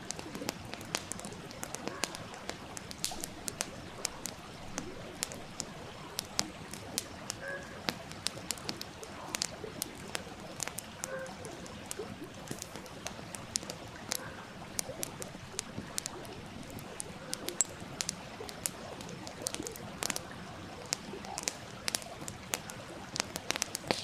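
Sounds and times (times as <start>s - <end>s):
flowing stream: 0.0s - 24.0s
wood fire crackling and popping: 0.0s - 24.0s.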